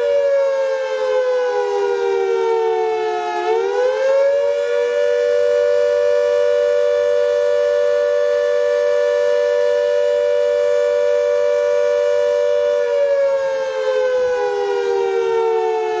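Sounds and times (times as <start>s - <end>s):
air raid siren wailing: 0.0s - 16.0s.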